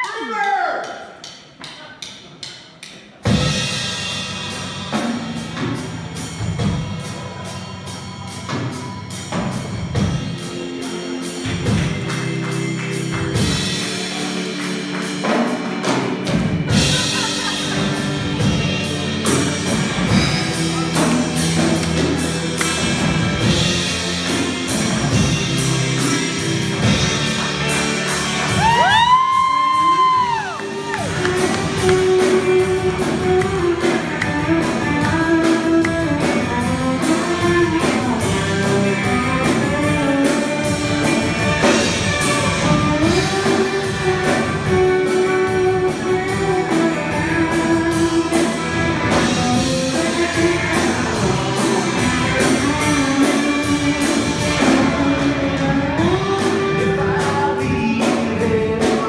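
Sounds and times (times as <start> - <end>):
rock band playing: 3.0 - 59.0.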